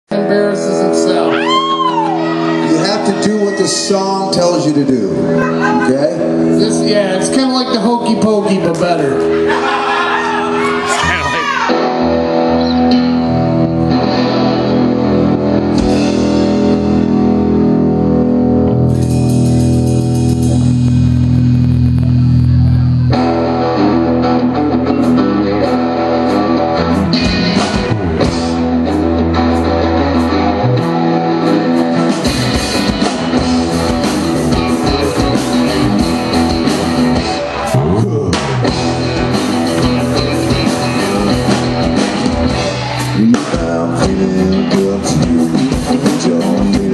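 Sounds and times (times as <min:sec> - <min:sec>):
rock band playing: 0:00.1 - 0:46.9.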